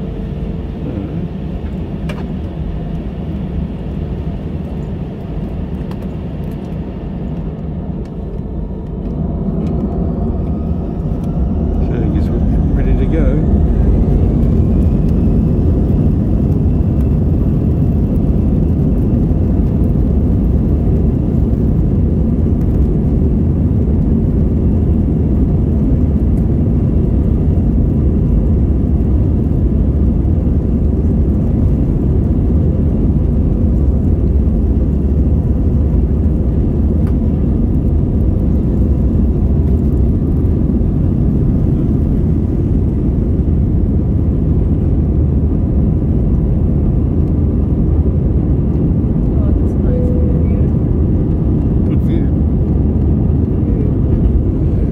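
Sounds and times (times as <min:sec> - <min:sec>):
faint high engine whine: 0:00.0 - 0:54.9
jet engines and runway rumble: 0:00.0 - 0:54.9.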